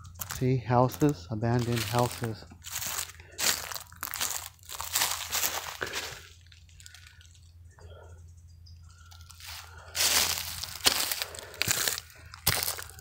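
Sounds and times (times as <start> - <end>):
footsteps crunching dry leaves: 0.0 - 7.2, 9.2 - 13.0.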